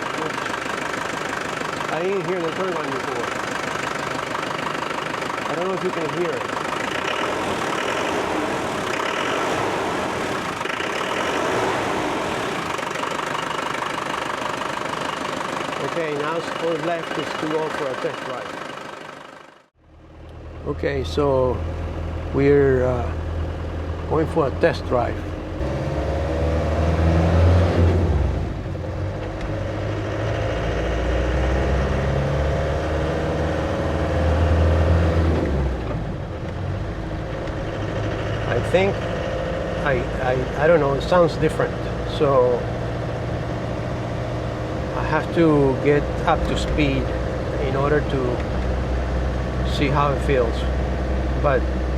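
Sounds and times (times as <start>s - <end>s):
diesel engine idling: 0.0s - 25.7s, 35.6s - 51.9s.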